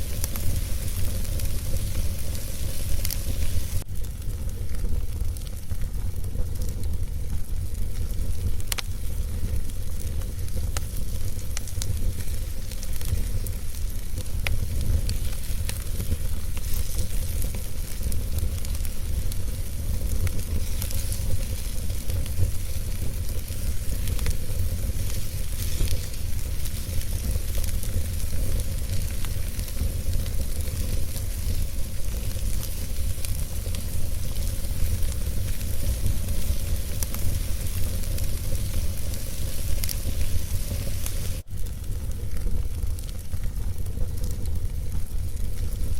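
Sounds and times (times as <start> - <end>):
fire crackling and popping: 0.0 - 45.9
hiss and rumble of flames: 0.0 - 45.9.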